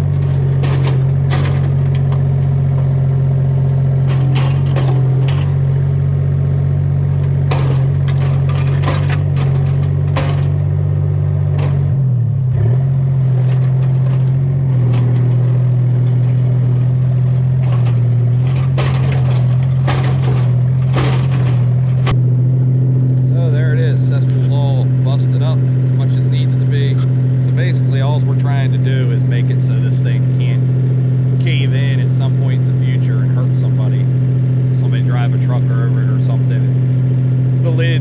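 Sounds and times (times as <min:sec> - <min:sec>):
bucket clanking and scraping: 0:00.0 - 0:12.1, 0:12.8 - 0:22.2, 0:24.0 - 0:30.8, 0:31.4 - 0:34.1
excavator engine running: 0:00.0 - 0:38.0.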